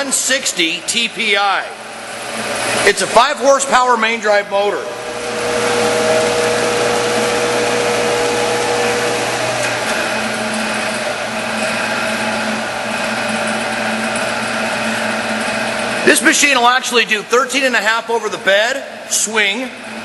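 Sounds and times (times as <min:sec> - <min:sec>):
lathe whirring and humming: 0:00.0 - 0:20.0.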